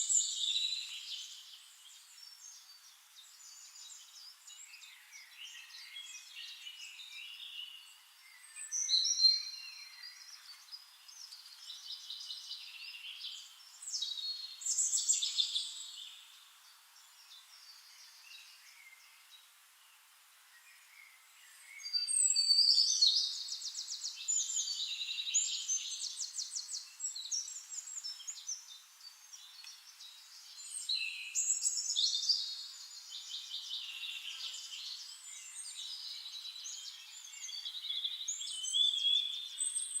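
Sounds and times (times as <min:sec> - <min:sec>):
songbirds trilling and chirping: 0:00.0 - 0:40.0.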